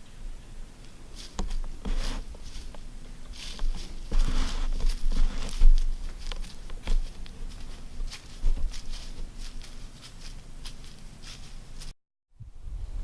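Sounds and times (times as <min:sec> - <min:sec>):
light crackles and rustles: 0:00.8 - 0:11.9.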